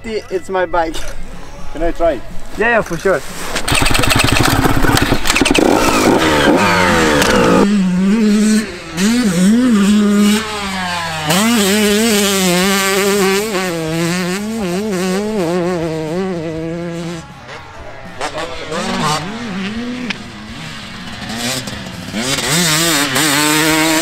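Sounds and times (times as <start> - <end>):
dirt bike engines revving: 1.1 - 24.0.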